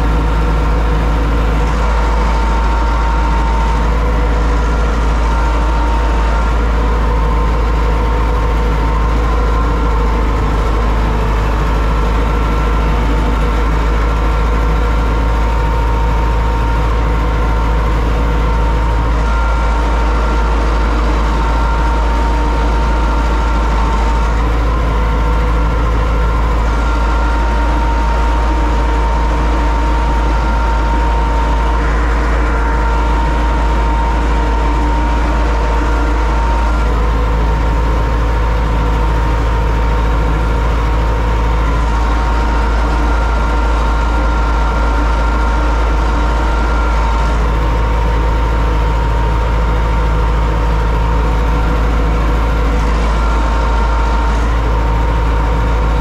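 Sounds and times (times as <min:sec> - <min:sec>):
steady high whine: 0:00.0 - 0:56.0
tractor diesel engine rumble: 0:00.0 - 0:56.0.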